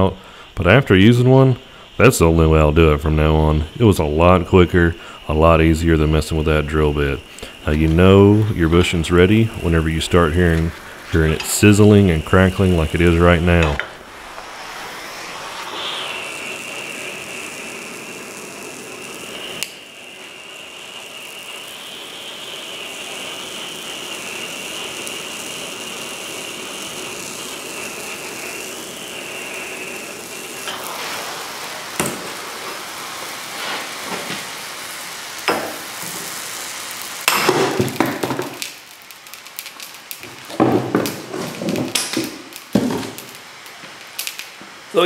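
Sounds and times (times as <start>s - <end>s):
torch hissing with thin whistle: 0.0s - 45.0s
rubber sizzling and crackling: 6.3s - 45.0s.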